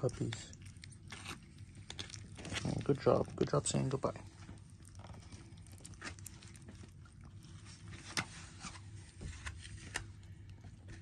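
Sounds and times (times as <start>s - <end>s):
puppies licking and nibbling: 0.0s - 11.0s.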